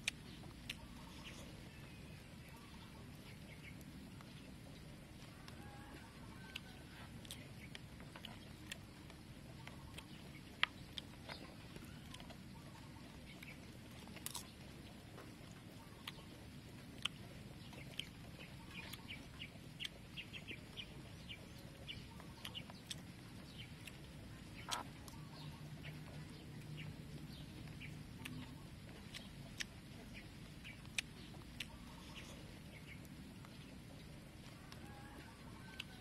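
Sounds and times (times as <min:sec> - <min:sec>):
wet chewing and mouth smacks: 0:00.0 - 0:02.7, 0:03.3 - 0:36.0.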